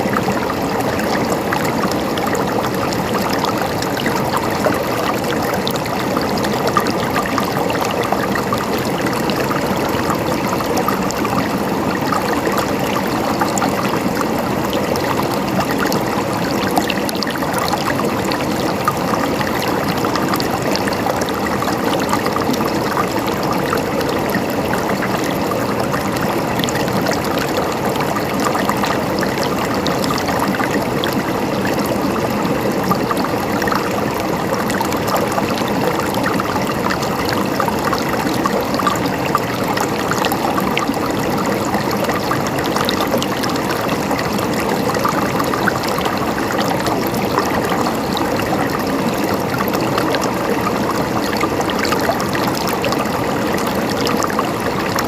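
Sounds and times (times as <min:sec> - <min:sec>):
running water babbling and splashing: 0:00.0 - 0:55.0.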